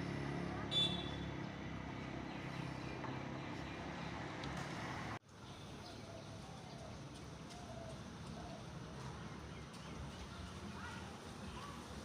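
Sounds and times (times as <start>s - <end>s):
hum of vehicle traffic: 0.0s - 12.0s
outdoor background: 0.0s - 12.0s.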